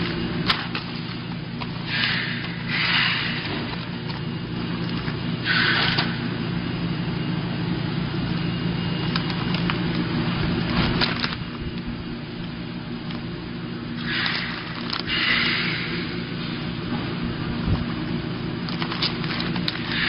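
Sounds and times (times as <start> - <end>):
packaging machine humming: 0.0 - 20.0.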